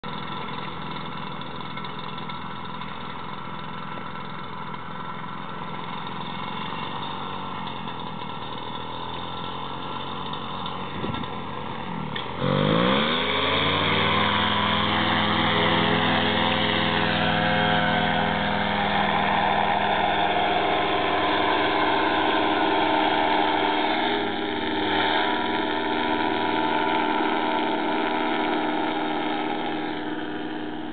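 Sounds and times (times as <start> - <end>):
paramotor engine and propeller: 0.0 - 30.9.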